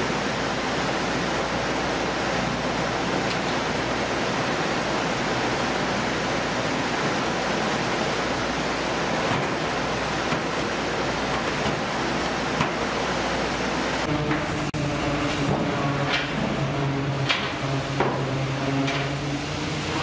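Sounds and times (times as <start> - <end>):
processing line rushing: 0.0 - 17.6
low machine hum: 0.0 - 20.0.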